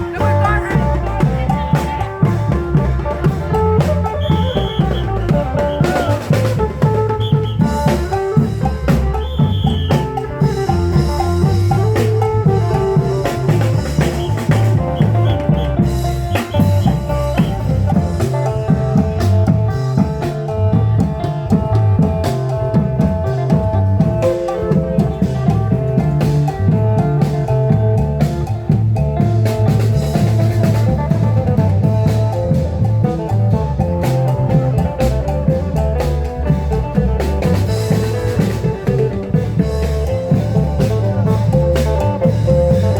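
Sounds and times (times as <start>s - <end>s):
drum band playing procession music: 0.0s - 42.9s.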